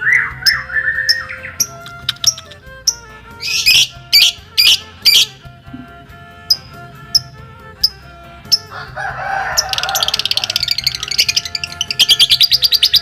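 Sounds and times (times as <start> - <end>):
lovebird chirping: 0.0 - 5.4, 6.5 - 8.7, 9.6 - 13.0
background music: 0.0 - 13.0.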